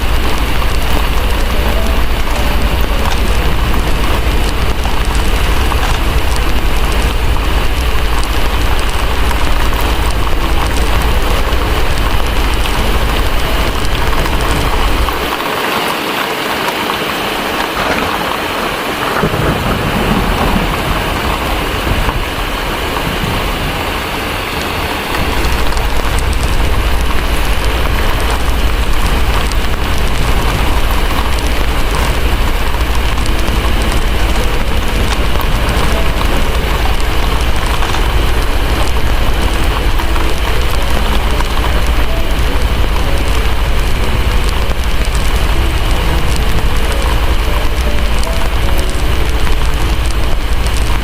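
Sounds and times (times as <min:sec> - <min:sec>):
heavy rain: 0:00.0 - 0:51.0
thunder rumbling: 0:00.0 - 0:51.0.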